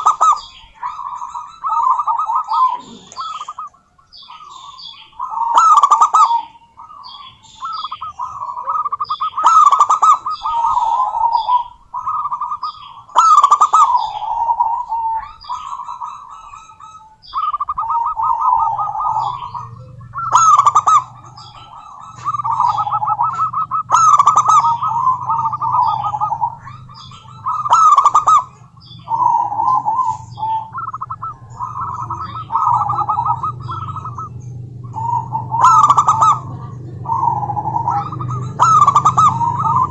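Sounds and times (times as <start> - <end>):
dove cooing: 0.0 - 39.9
steady low hum: 0.0 - 39.9.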